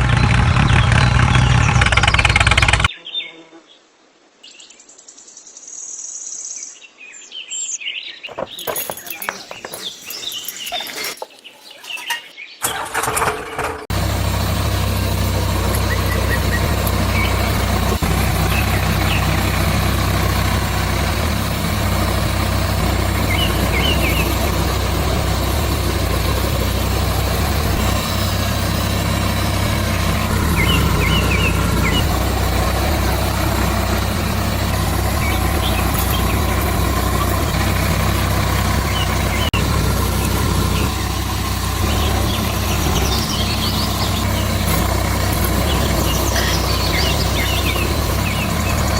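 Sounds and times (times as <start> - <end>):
engine running steadily: 0.0 - 2.9, 12.0 - 48.9
bird chirps: 4.5 - 12.8, 14.6 - 48.9.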